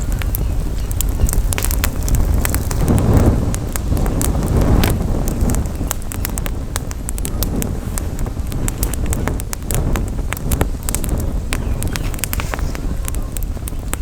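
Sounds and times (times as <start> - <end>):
campfire crackling and popping: 0.0 - 14.0
wind on microphone: 0.0 - 14.0.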